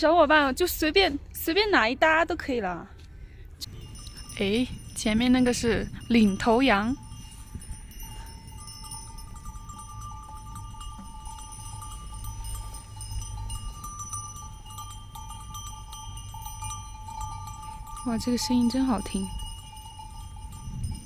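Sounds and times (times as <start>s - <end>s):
sheep bells ringing: 3.7s - 21.0s.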